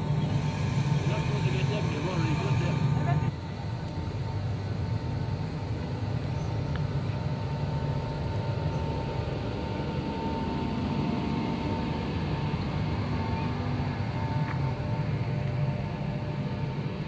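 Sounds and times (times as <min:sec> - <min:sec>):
faint electric whine: 0:00.0 - 0:17.0
train wheels rumbling on rail: 0:00.0 - 0:17.0.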